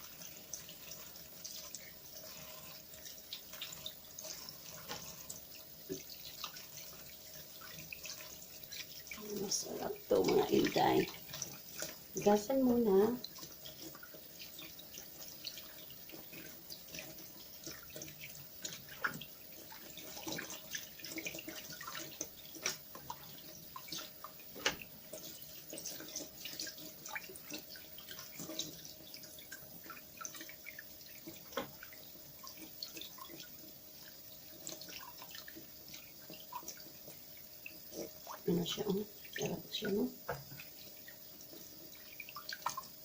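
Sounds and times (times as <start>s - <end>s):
water splashing in a sink: 0.0s - 43.0s.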